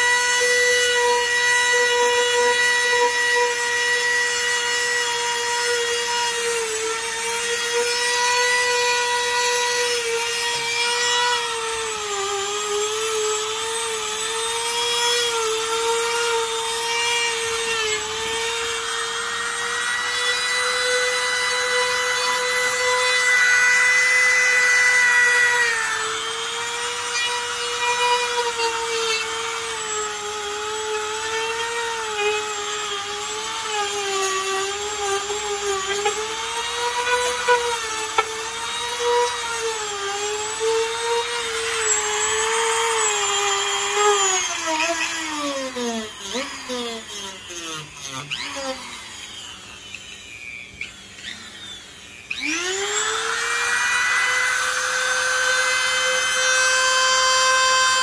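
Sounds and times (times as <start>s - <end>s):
bit grinding material: 0.0s - 58.0s
rotary tool whining: 0.0s - 58.0s.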